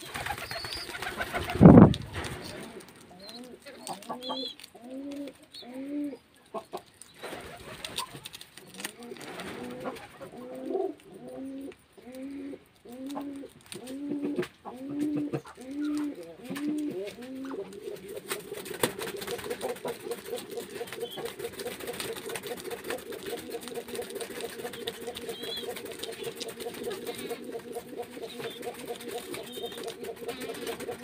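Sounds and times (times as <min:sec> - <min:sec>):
guinea pigs cooing: 0:00.0 - 0:31.0
guinea pigs nibbling leaves: 0:00.0 - 0:31.0.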